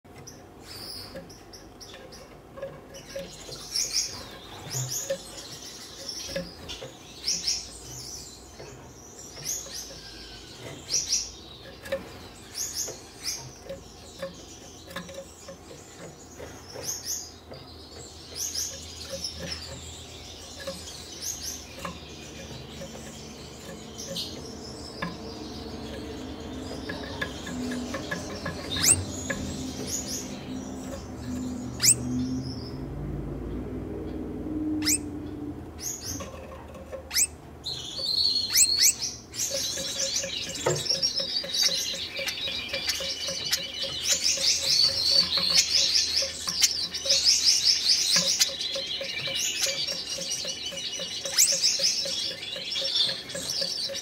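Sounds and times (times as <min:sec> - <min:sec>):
finches chirping: 0:00.1 - 0:54.0.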